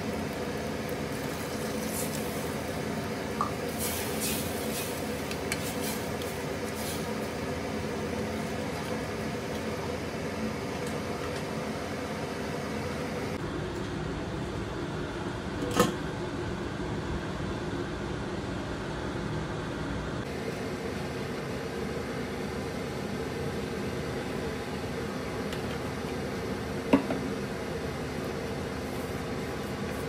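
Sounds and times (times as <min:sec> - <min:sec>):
appliance humming: 0:00.0 - 0:30.0.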